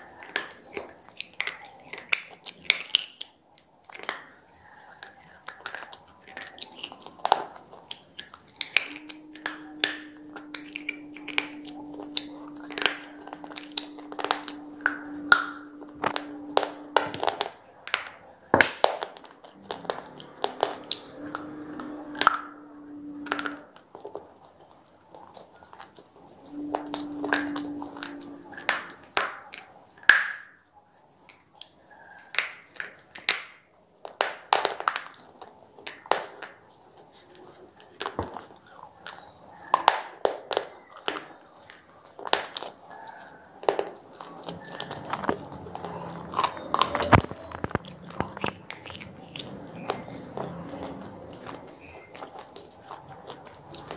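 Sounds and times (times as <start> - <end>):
crunching and chewing slate: 0.0 - 53.9.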